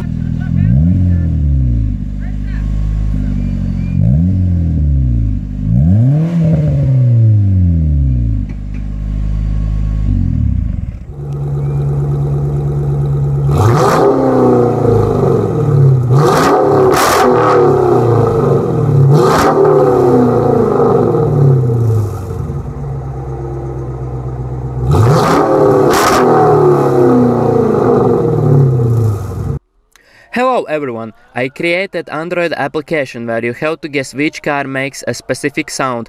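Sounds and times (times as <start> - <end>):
v eight engine idling and revving: 0.0 - 29.6
car engine revving: 0.0 - 29.7.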